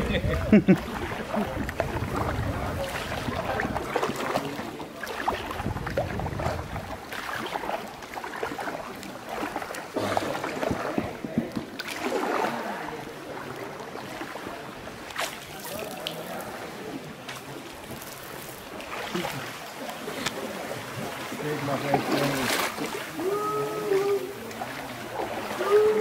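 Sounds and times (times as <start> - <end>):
paddle splashing in water: 0.0 - 26.0.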